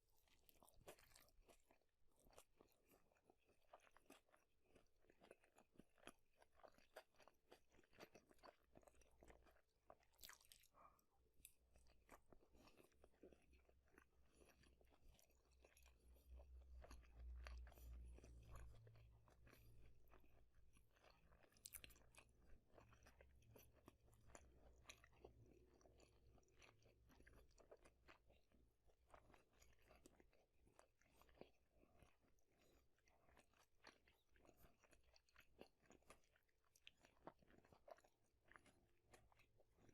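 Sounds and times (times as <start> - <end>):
wet chewing and crunchy bites: 0.0 - 39.9.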